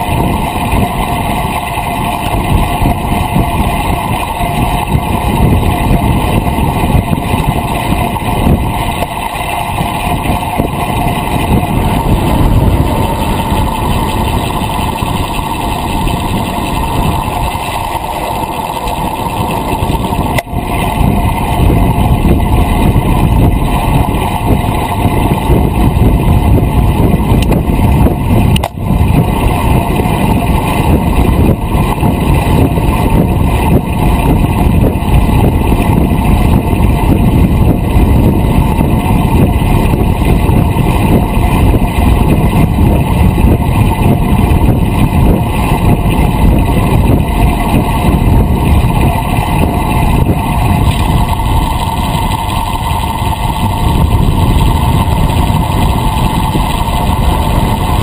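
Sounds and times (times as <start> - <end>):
bicycle tyres on asphalt: 0.0 - 58.0
wind buffeting microphone: 0.0 - 58.0.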